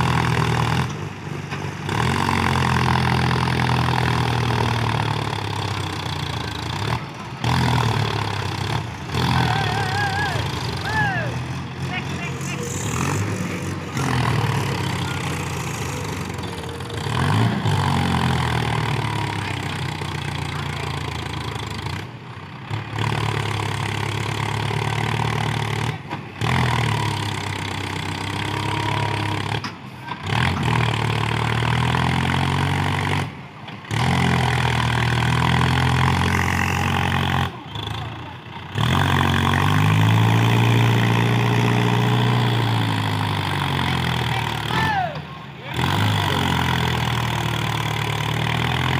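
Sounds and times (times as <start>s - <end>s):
tractor engine revving: 0.0s - 48.9s.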